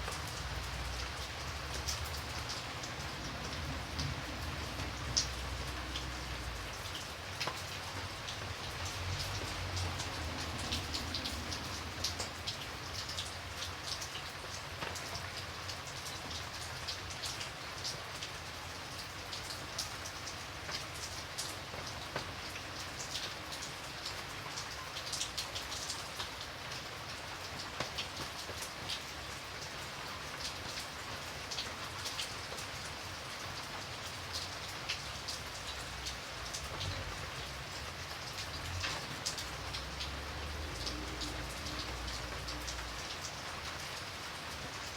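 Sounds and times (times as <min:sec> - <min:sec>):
rain hiss: 0:00.0 - 0:44.9
raindrops tapping on a surface: 0:00.0 - 0:44.9.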